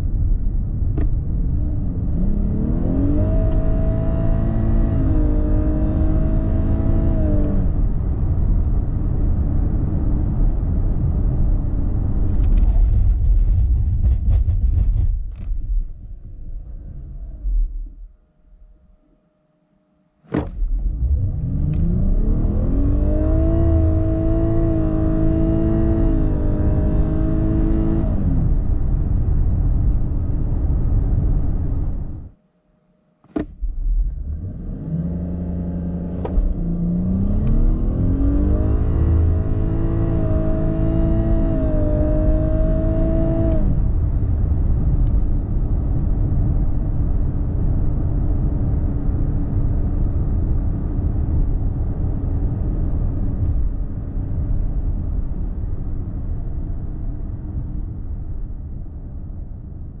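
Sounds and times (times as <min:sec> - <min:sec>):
road and wind rumble: 0:00.0 - 0:18.8, 0:20.3 - 0:32.4, 0:33.2 - 1:00.0
car engine accelerating: 0:00.7 - 0:19.0, 0:20.2 - 0:32.3, 0:33.2 - 0:58.9.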